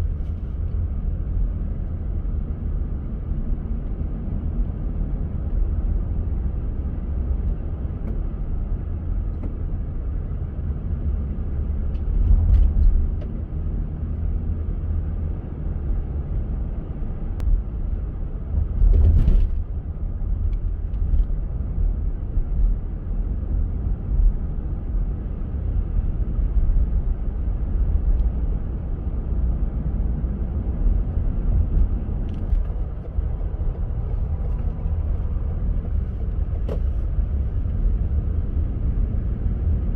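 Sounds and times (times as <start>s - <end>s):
car driving on snowy road: 0.0s - 39.9s.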